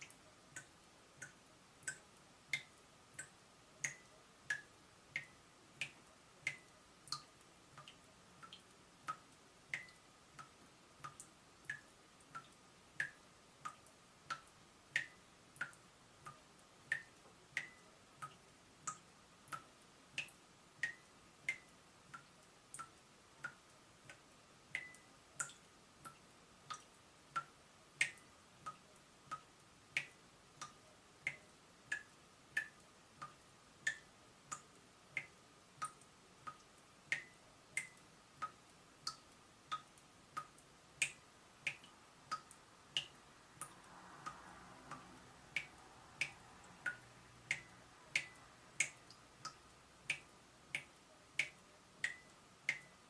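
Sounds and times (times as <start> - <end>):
water dripping from tap: 0.0 - 53.0.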